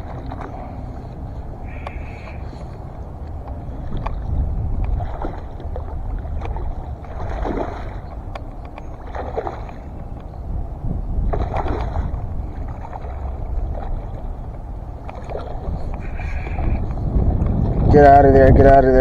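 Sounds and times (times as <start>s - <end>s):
water splashing: 0.0s - 18.2s
wind buffeting microphone: 0.0s - 19.0s.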